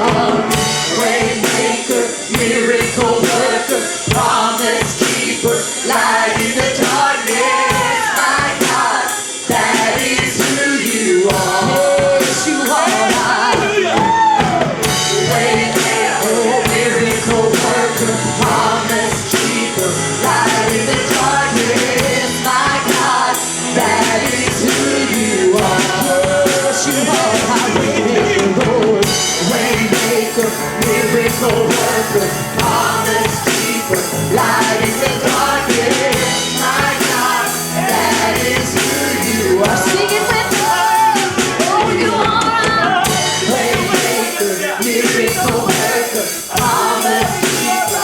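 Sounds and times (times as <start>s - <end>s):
people singing: 0.0s - 48.0s
worship band playing: 0.0s - 48.0s.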